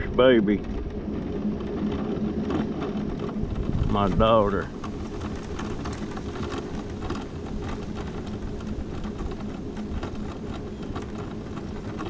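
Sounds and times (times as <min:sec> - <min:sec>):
electric motor hum: 0:00.0 - 0:12.0
small rattles: 0:00.0 - 0:12.0
tyre rumble on asphalt: 0:00.0 - 0:12.0.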